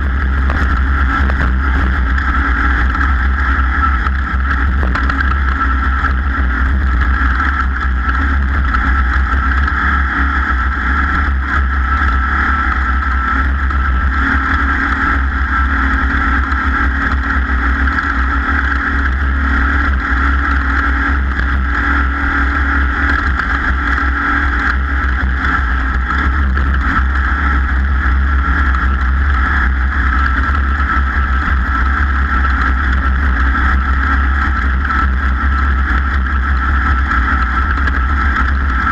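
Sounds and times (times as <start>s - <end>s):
deep rumble: 0.0s - 38.9s
race vehicle engine drone: 0.0s - 38.9s
wind noise: 0.0s - 38.9s.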